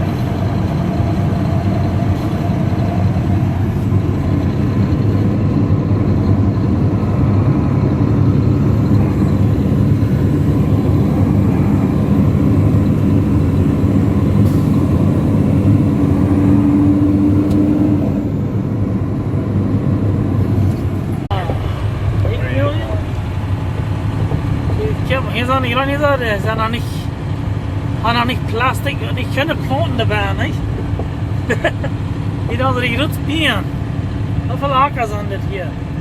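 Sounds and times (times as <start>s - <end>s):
road noise: 0.0s - 36.0s
steady whine: 0.0s - 36.0s
truck engine drone: 0.0s - 36.0s.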